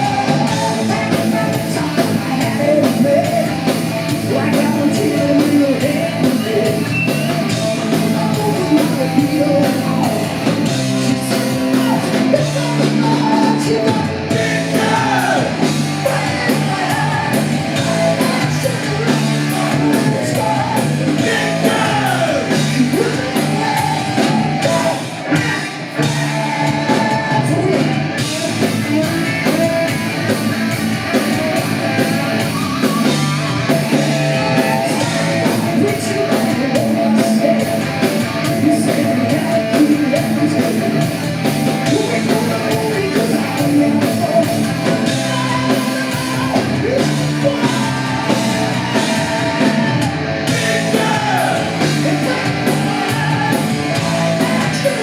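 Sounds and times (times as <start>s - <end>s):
person singing: 0.0s - 41.2s, 41.8s - 55.0s
hard rock band playing: 0.0s - 55.0s.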